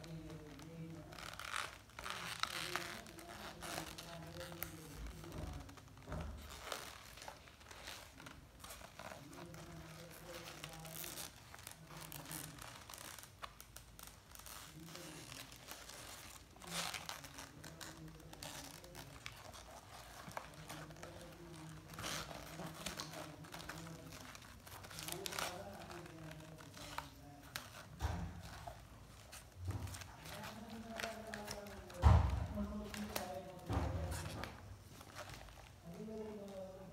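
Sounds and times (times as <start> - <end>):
paper pages rustling: 0.0 - 36.9.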